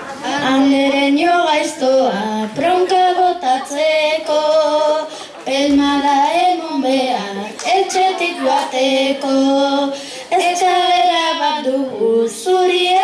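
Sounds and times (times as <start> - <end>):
child singing unaccompanied: 0.0 - 13.0.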